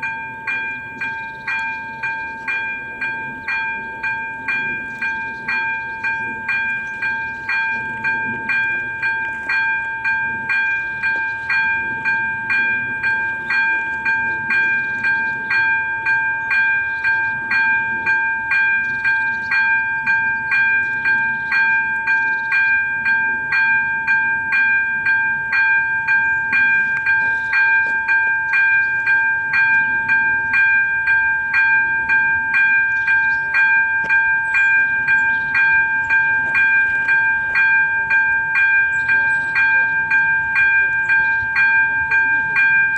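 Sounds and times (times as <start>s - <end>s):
level-crossing bell ringing: 0.0s - 42.9s.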